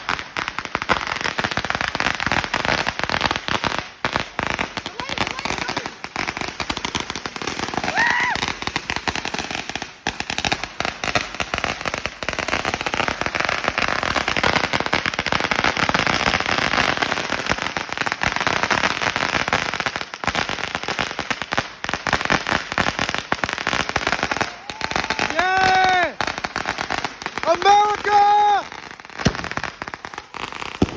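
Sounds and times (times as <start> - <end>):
firecracker roll bangs and crackles: 0.0 - 30.9.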